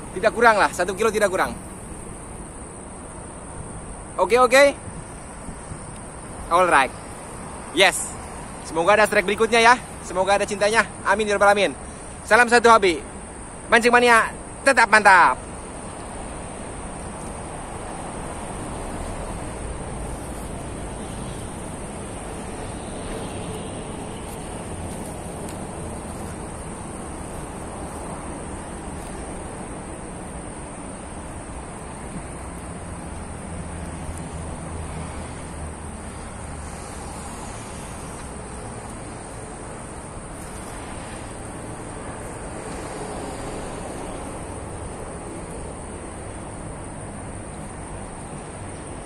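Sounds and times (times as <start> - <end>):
insect chorus: 0.0 - 49.0.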